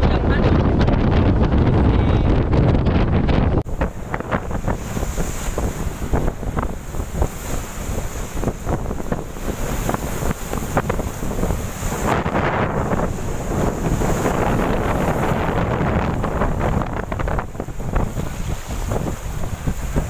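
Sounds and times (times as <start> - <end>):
gusty thumps and splashes: 0.0 - 20.0
storm waves breaking on deck: 0.0 - 20.0
wind buffeting microphone: 0.0 - 20.0.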